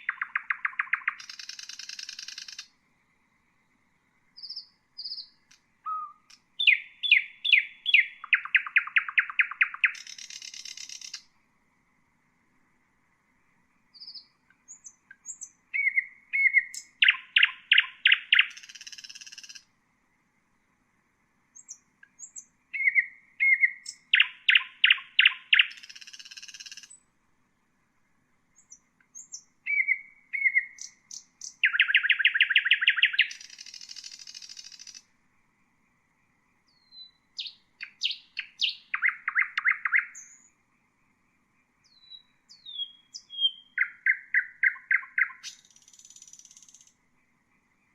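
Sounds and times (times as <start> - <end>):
nightingale singing: 0.0 - 2.8, 3.5 - 11.4, 13.9 - 19.7, 21.5 - 27.1, 28.5 - 35.2, 36.3 - 40.7, 41.6 - 47.9.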